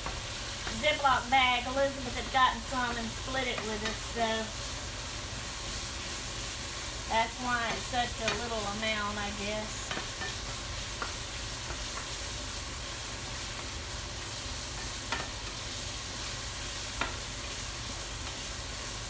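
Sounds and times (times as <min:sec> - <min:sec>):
meat sizzling in a frying pan: 0:00.0 - 0:19.0
vent fan running: 0:00.0 - 0:19.0.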